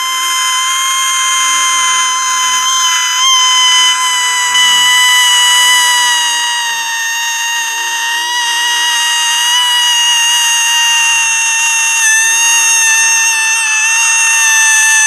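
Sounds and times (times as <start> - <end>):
man's shrill falsetto screech: 0.0 - 15.0.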